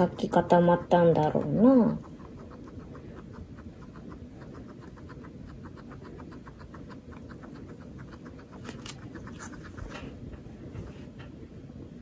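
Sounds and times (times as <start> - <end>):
guinea pig chewing food: 0.0 - 11.8.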